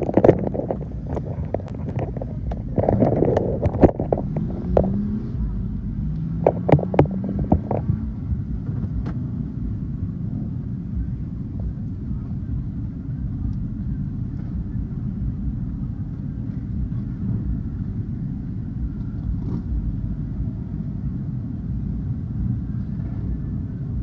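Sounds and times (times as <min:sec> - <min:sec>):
low rumble of motorcycles: 0:00.0 - 0:24.0.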